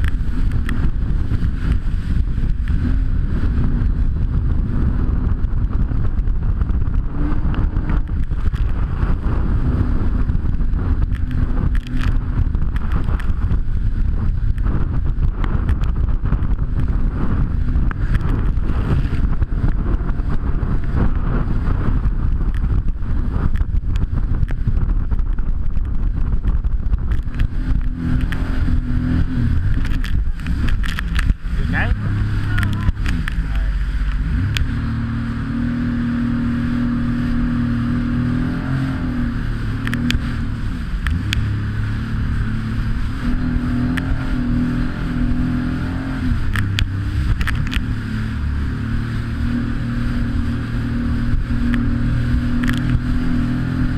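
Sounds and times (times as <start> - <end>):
jet ski engine hum: 0.0 - 53.9
wind and water noise: 0.0 - 53.9.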